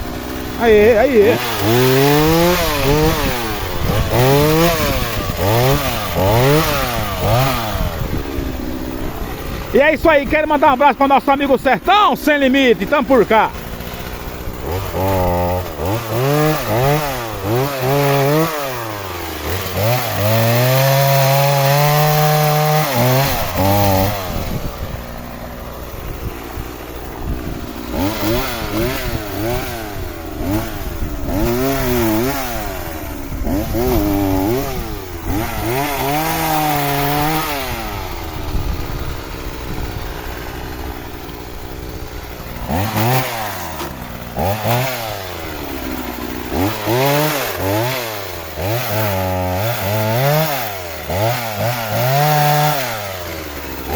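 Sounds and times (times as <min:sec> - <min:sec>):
chainsaw cutting logs: 0:00.0 - 0:53.9.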